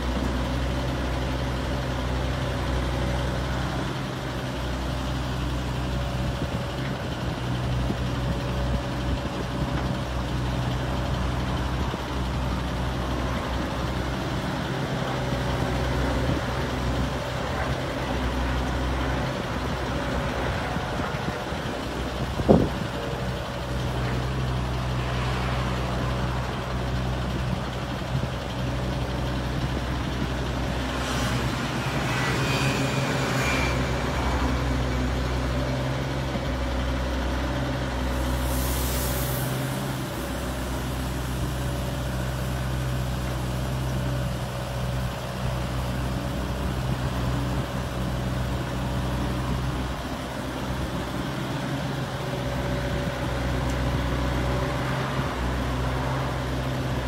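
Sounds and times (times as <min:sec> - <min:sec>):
excavator diesel engine running: 0:00.0 - 0:57.0
truck diesel idling: 0:00.0 - 0:57.0.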